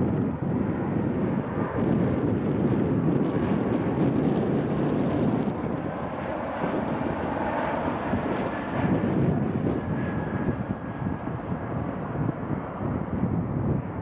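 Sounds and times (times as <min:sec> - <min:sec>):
jet engines rumbling: 0:00.0 - 0:14.0
wind buffeting microphone: 0:00.0 - 0:14.0.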